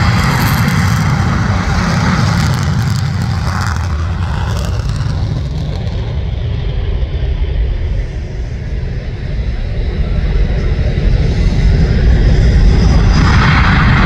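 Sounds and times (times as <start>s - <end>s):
jet engine rumble and hiss: 0.0s - 14.0s.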